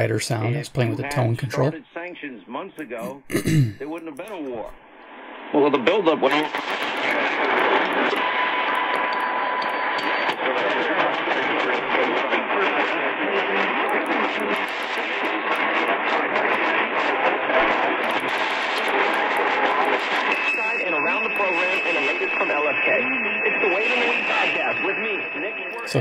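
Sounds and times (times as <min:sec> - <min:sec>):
radio static and hiss: 0:00.0 - 0:26.0.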